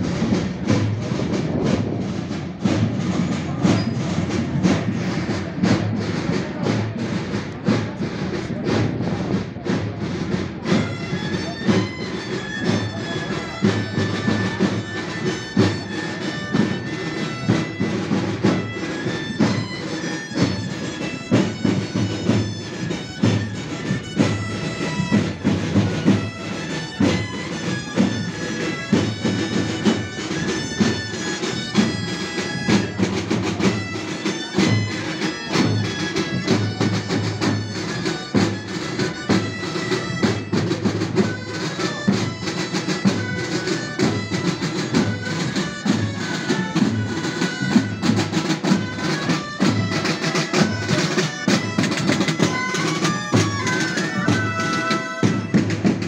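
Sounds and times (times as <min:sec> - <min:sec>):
drum beat: 0:00.0 - 0:56.0
reed pipes melody: 0:00.1 - 0:56.0.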